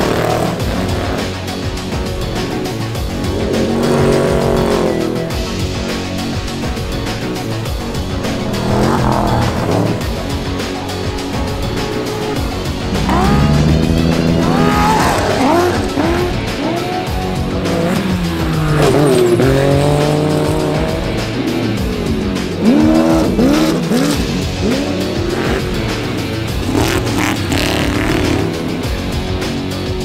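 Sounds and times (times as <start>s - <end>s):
background music: 0.0s - 30.0s
race truck engines revving: 0.0s - 30.0s.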